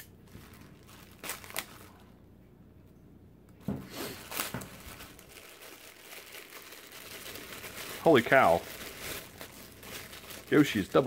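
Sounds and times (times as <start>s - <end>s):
plastic bag crinkling and tearing: 0.0s - 2.2s, 4.0s - 11.0s.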